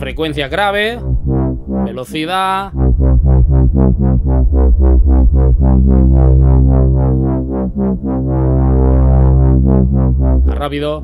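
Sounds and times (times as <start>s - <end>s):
deep sustained sub-bass: 0.0s - 11.0s
fast synthesizer arpeggio: 0.0s - 11.0s.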